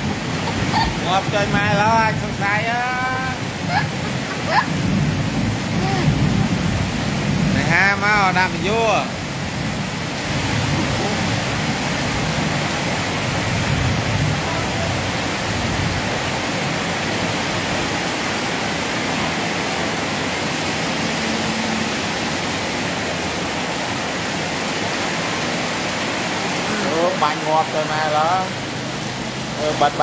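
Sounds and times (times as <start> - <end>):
heavy rain on street: 0.0 - 30.0.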